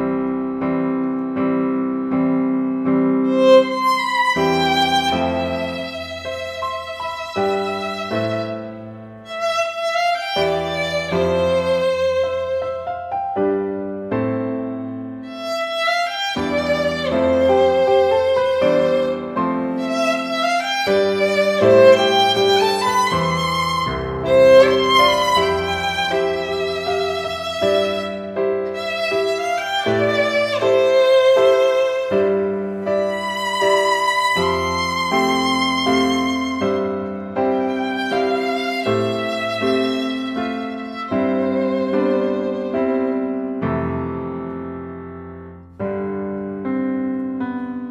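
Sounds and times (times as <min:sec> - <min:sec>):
violin melody with accompaniment: 0:02.6 - 0:45.9.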